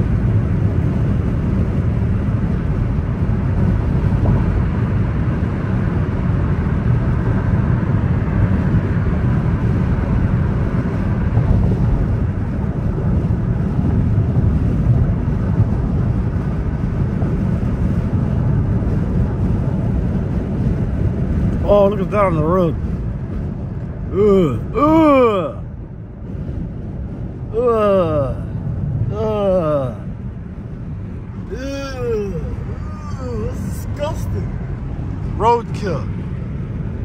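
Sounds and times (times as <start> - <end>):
car driving road noise: 0.0 - 37.0.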